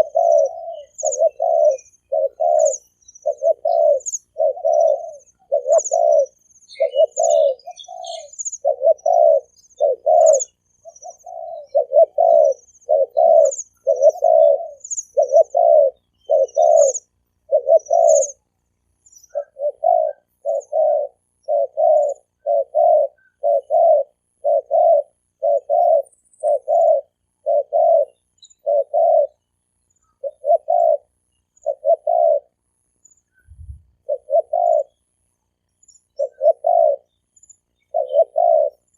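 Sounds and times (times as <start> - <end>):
dove cooing: 0.0 - 32.6, 33.4 - 35.1, 35.8 - 38.9
small birds chirping faintly: 0.0 - 38.9.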